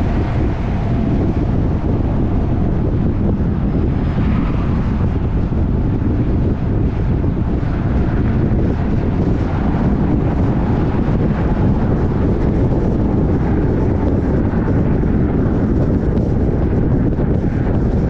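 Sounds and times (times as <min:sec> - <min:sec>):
car tyre and wind rumble: 0:00.0 - 0:18.0.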